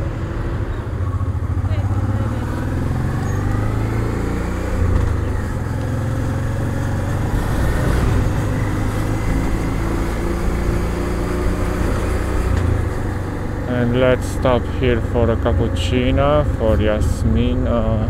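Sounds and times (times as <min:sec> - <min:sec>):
bus passing: 0:00.0 - 0:18.0
car passing: 0:00.0 - 0:18.0
motorcycle engine cruising: 0:00.0 - 0:18.0.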